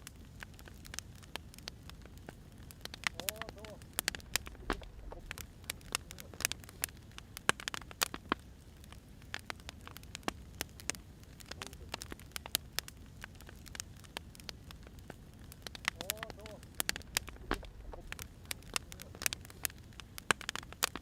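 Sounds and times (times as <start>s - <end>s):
faint hiss: 0.0s - 21.0s
wood fire crackling: 0.0s - 21.0s.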